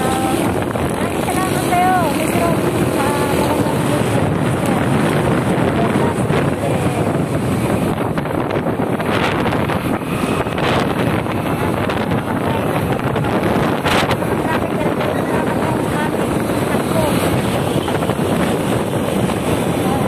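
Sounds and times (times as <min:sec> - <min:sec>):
motorcycle engine: 0:00.0 - 0:20.0
road traffic: 0:00.0 - 0:20.0
wind buffeting microphone: 0:00.0 - 0:20.0.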